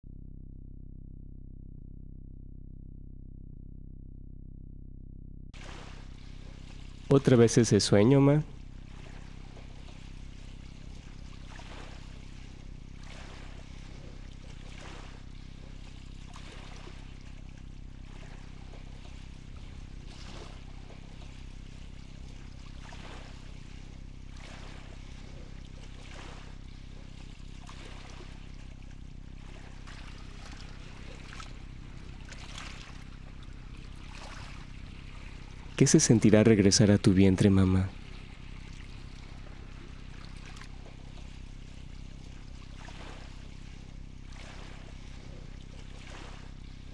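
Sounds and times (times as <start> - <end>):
steady low hum: 0.0 - 46.9
sea water lapping gently: 5.6 - 46.9.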